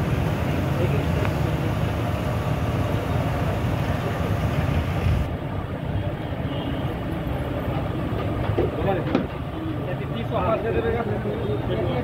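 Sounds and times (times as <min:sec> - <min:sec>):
continuous low rumble: 0:00.0 - 0:09.8.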